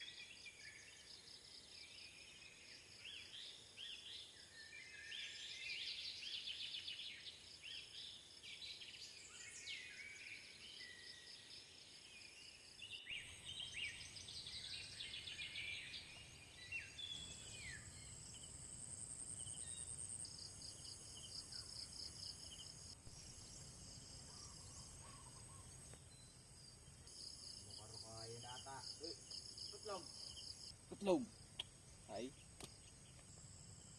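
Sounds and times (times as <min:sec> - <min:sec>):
birds chirping: 0:00.0 - 0:18.6, 0:19.3 - 0:33.9
insects droning: 0:00.0 - 0:33.9.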